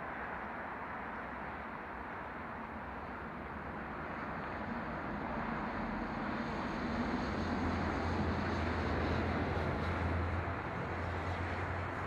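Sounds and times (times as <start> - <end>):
approaching train rumble: 0.1 - 12.0.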